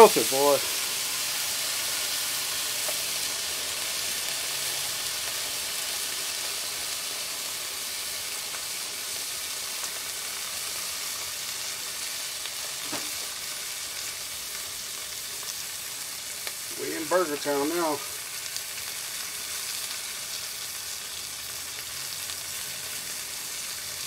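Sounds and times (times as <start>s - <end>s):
burgers sizzling on a griddle: 0.0s - 24.0s.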